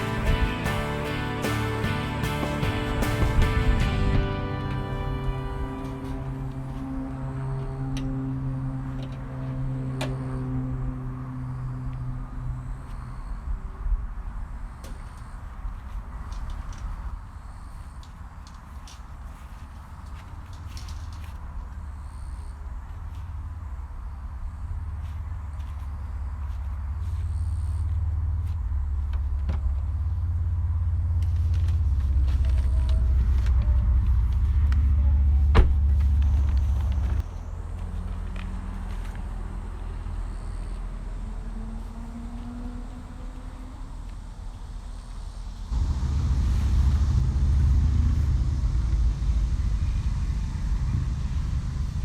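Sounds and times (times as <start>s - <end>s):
car engine rumbling: 0.0s - 13.3s, 18.6s - 52.0s.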